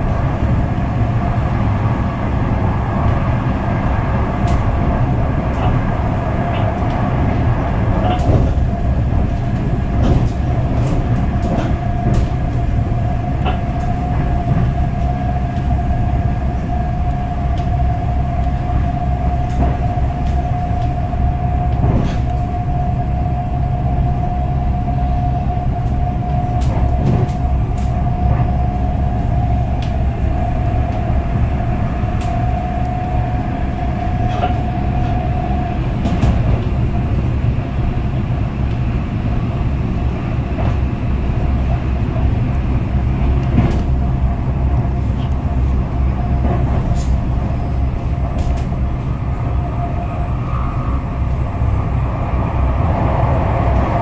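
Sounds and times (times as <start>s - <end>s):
constant whine: 0.0s - 54.0s
train wheels rumbling on track: 0.0s - 54.0s.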